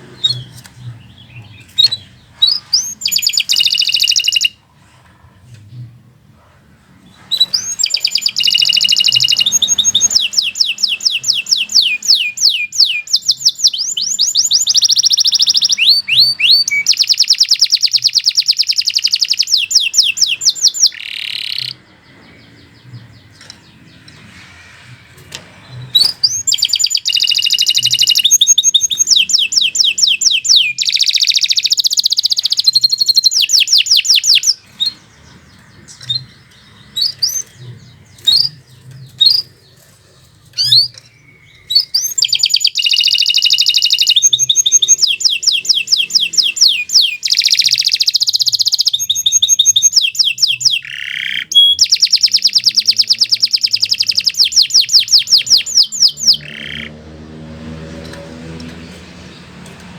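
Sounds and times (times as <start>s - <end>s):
canary singing trills: 0.0s - 4.7s, 6.9s - 57.1s.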